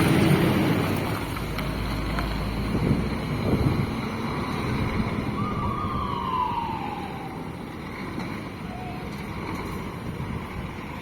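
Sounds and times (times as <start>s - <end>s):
bus engine passing: 0.0s - 11.0s.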